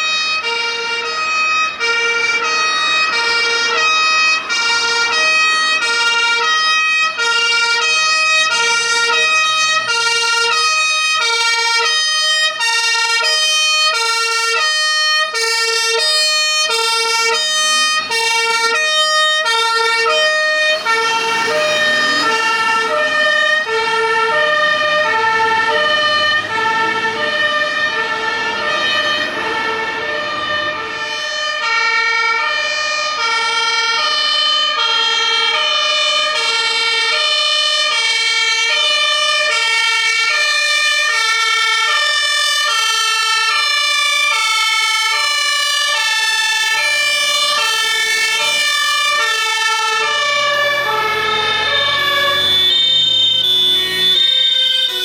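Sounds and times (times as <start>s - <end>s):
engine and road noise: 0.0s - 55.0s
fire engine two-tone siren: 0.0s - 55.0s.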